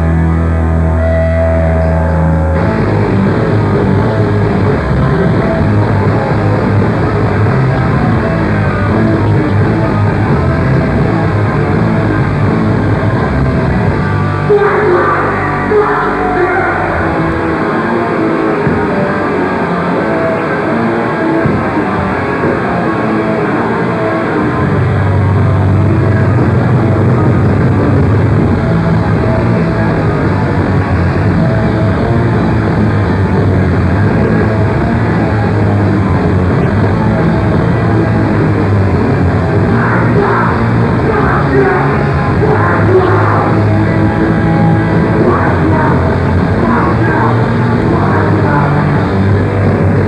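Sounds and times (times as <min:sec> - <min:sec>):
distorted electric guitar: 0:00.0 - 0:50.0
drums: 0:00.0 - 0:50.0.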